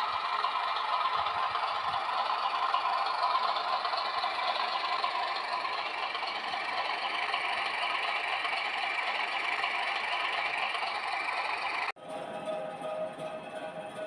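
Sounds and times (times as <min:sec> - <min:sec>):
model train rattling on rails: 0:00.0 - 0:14.0.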